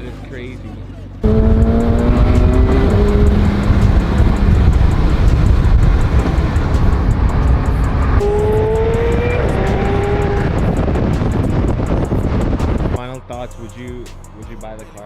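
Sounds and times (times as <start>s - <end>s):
car engine low rumble: 0.0s - 15.0s
road noise: 0.0s - 15.0s.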